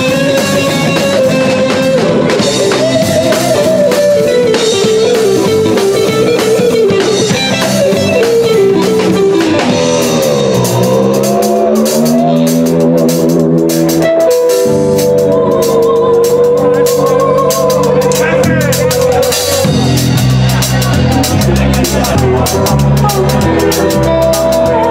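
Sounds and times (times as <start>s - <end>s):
drum kit: 0.0s - 24.9s
electric guitar bending notes: 0.0s - 24.9s.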